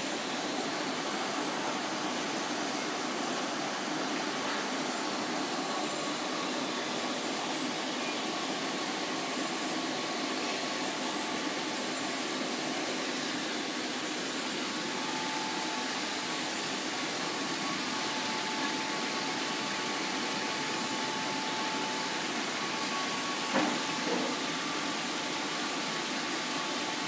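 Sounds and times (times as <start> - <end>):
aquarium water rushing: 0.0 - 27.0
faint steady whine: 0.0 - 27.0.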